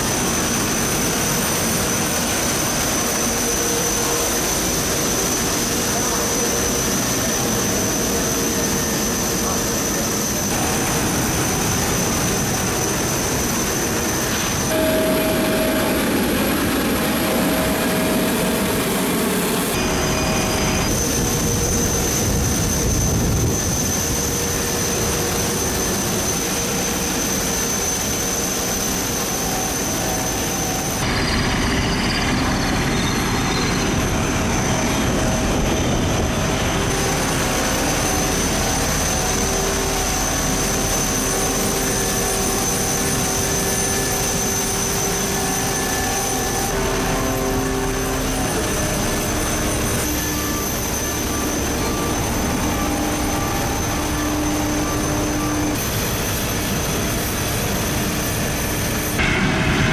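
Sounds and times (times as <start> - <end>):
high steady whine: 0.0 - 59.9
jet engine cockpit noise: 0.0 - 59.9.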